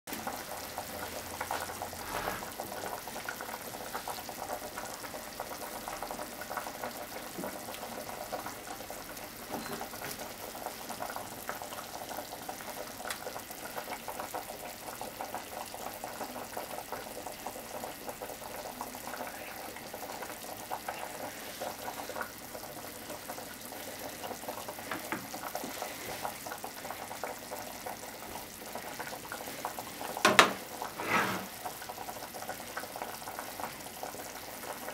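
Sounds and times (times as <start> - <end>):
pot bubbling: 0.1 - 34.9.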